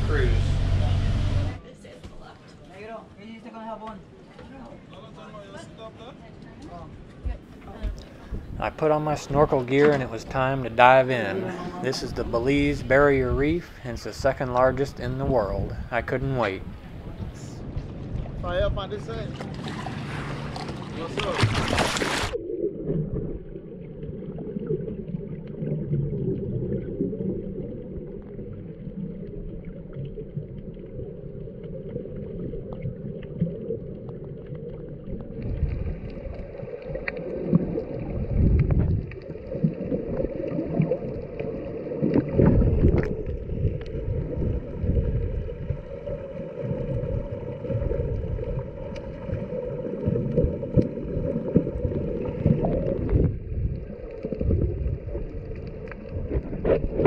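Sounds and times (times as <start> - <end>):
muffled underwater seawater rush: 6.9 - 57.0.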